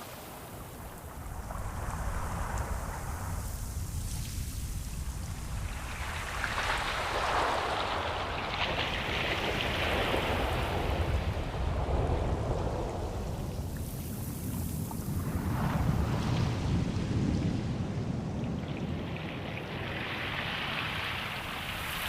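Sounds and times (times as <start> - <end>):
low rumble of surf: 0.0 - 22.0
wave washing in: 0.0 - 22.0.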